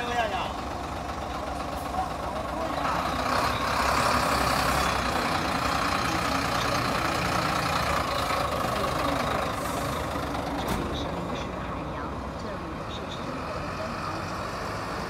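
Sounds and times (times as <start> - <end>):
truck diesel engine driving past: 0.0 - 15.0.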